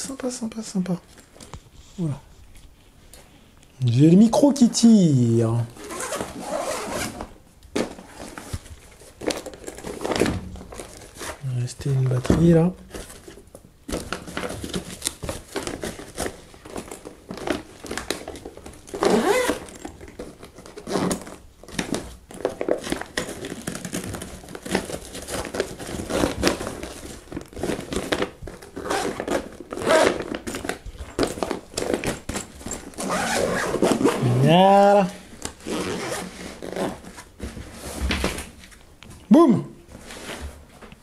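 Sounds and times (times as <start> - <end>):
fabric and plastic rustling: 0.0 - 39.3, 39.9 - 41.0.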